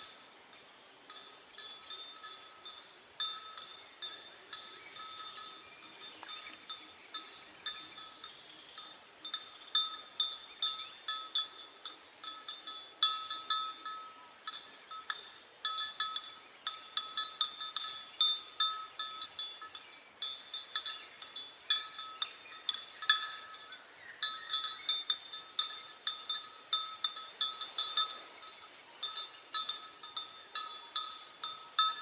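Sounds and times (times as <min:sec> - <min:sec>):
small metal bell clinking: 0:01.1 - 0:32.0.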